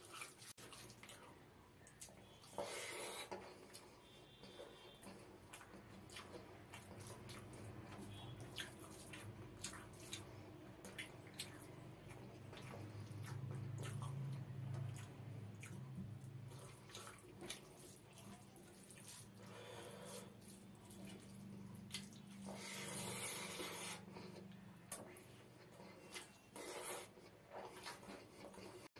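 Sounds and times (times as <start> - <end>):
chewing: 0.0 - 28.9
hand squishing rice: 0.0 - 28.9.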